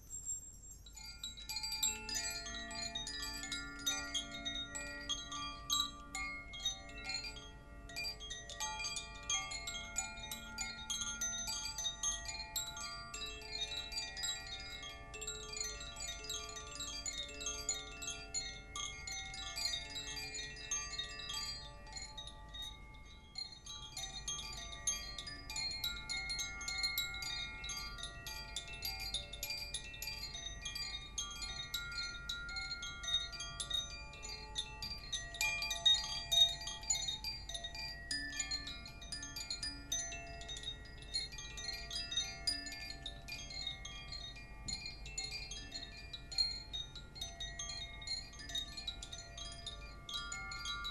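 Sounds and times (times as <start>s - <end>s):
wind chimes ringing: 0.0s - 50.9s.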